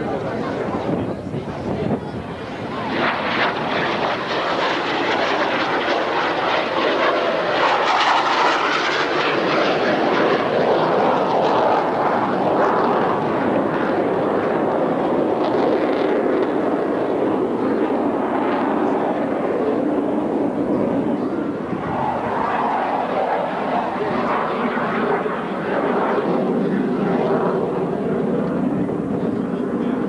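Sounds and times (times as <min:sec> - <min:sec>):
jet flying low pass: 0:00.0 - 0:30.0.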